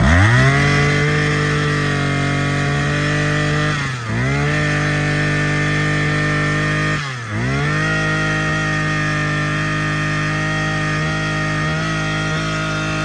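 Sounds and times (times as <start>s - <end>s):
brush cutter engine at high revs: 0.0s - 13.0s.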